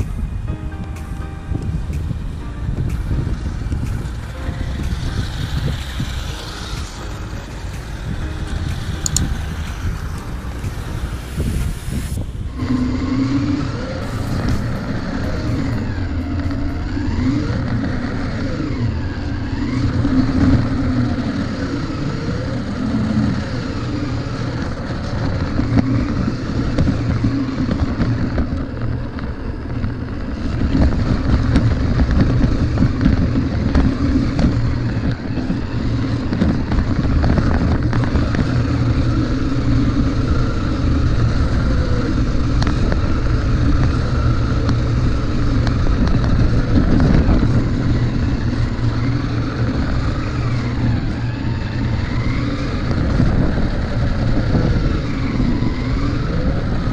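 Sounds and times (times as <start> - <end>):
chassis and tyres rattling on concrete: 1.9 - 56.9.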